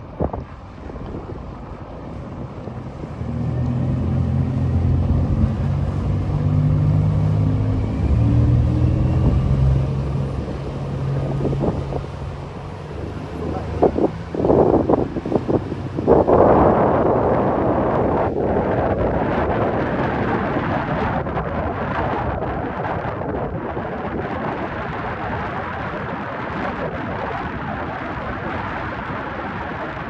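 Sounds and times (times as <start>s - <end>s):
boat engines droning: 0.0s - 30.0s
wind buffeting microphone: 0.0s - 30.0s.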